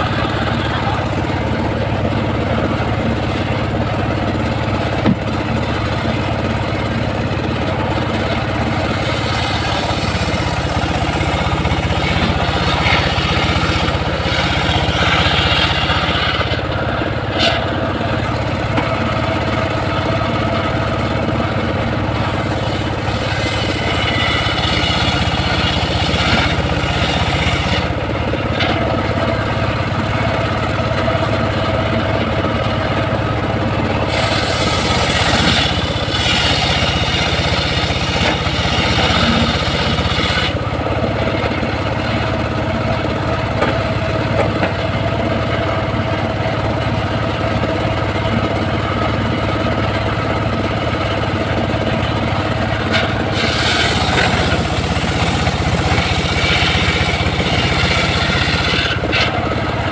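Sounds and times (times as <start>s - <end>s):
saw blade cutting log: 0.0s - 59.9s
sawmill engine running: 0.0s - 59.9s.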